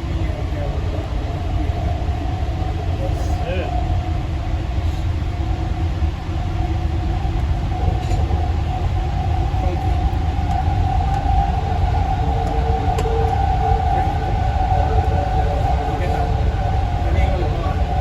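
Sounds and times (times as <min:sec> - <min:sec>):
train car rumbling: 0:00.0 - 0:18.0
train whine: 0:00.0 - 0:18.0.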